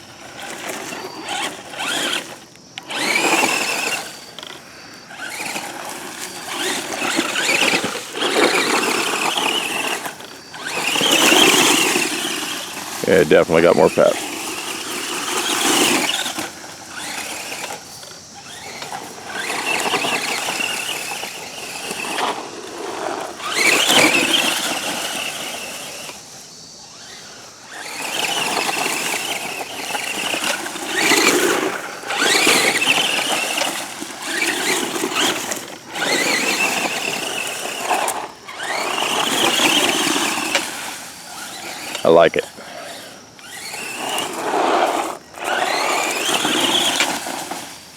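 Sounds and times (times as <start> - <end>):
toy truck motor whining: 0.0 - 47.9.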